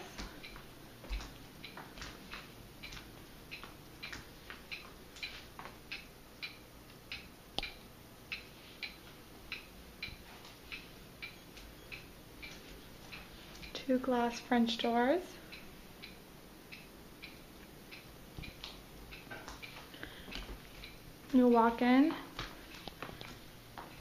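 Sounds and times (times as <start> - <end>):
faint regular ticking: 0.0 - 24.0.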